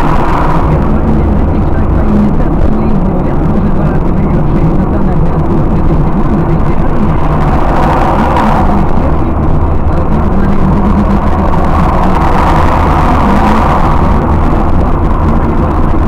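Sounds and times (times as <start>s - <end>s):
car engine hum: 0.0s - 16.0s
tyre and road noise: 0.0s - 16.0s.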